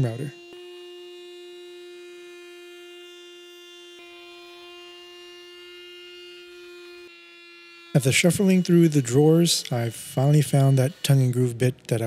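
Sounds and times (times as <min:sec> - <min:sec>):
router high-pitched whine: 0:00.0 - 0:12.0.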